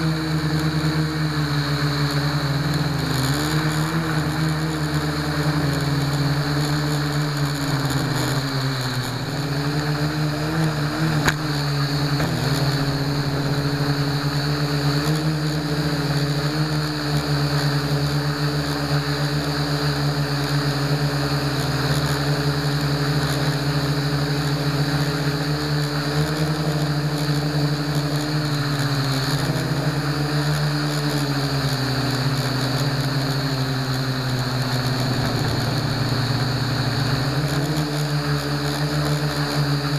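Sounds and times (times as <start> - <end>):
quadcopter motors whirring: 0.0 - 39.9.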